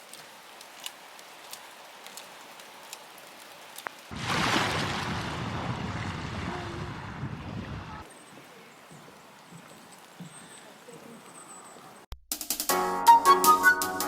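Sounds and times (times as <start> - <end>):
light rain hissing: 0.0 - 12.1.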